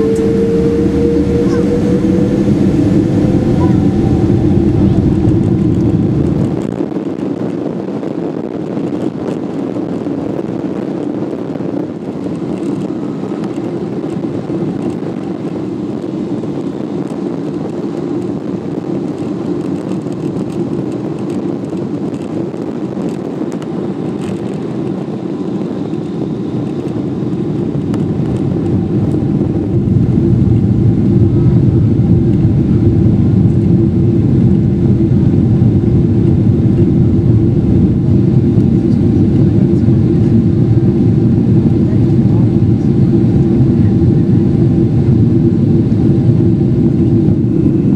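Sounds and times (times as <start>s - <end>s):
deep rumble: 0.0s - 47.9s
jet engines droning: 0.0s - 47.9s.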